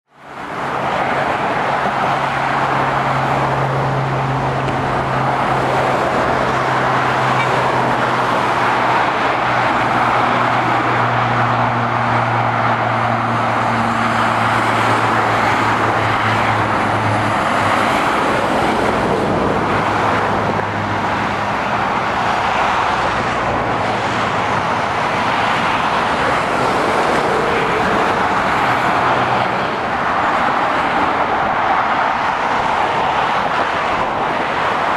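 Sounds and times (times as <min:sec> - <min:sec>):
traffic tyre roar: 0:00.0 - 0:34.9
lorry engine drone: 0:00.2 - 0:34.9.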